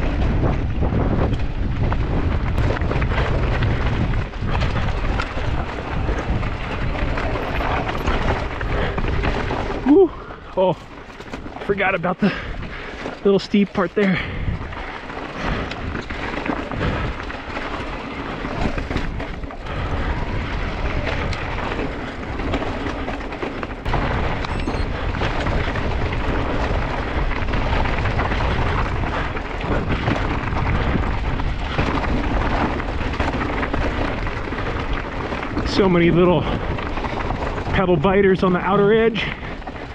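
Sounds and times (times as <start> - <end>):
bike rattling: 0.0 - 39.9
wind rumbling on microphone: 0.0 - 39.9.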